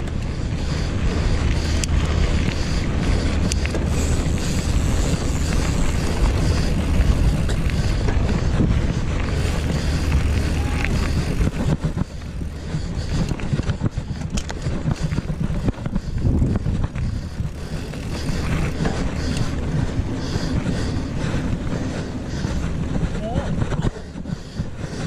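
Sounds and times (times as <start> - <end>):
bike knocking and rattling: 0.0 - 25.0
bike tyres on gravel: 0.0 - 25.0
wind buffeting microphone: 0.0 - 25.0.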